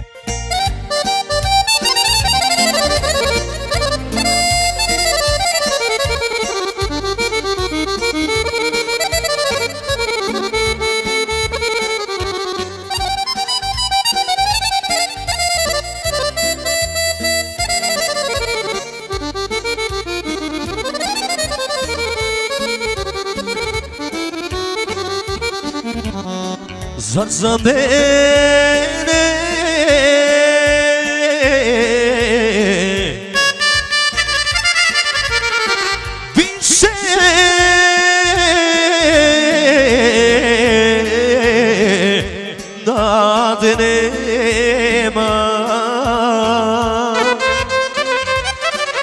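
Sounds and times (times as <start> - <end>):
accordion melody: 0.0 - 49.0
bass line: 0.0 - 49.0.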